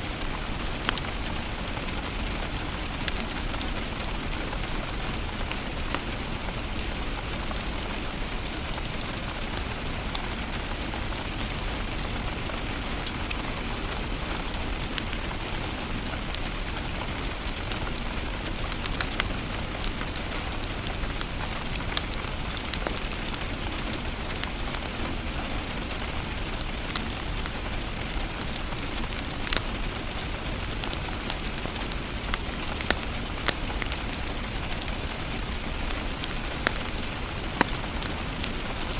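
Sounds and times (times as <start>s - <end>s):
fire crackles and pops: 0.0s - 38.9s.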